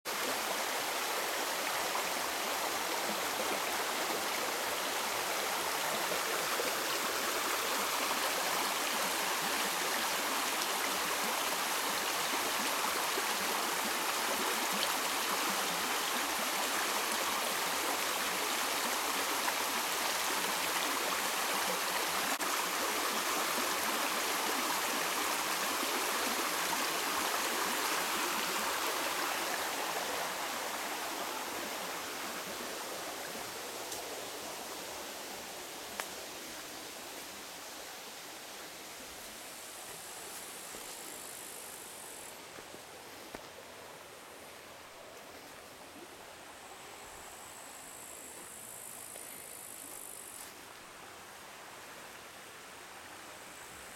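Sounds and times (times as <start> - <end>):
stream running over stones: 0.1 - 53.9.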